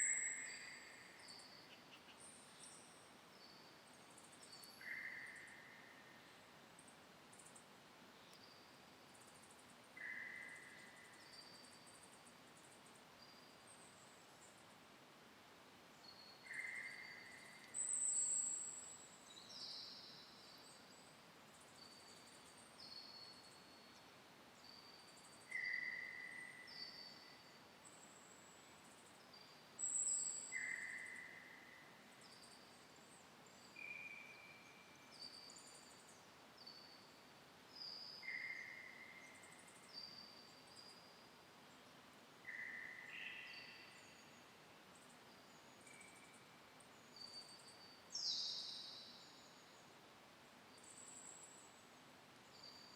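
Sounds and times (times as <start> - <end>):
wild birds chirping: 0.0 - 14.7, 16.0 - 50.0
faint background hiss: 0.0 - 52.9.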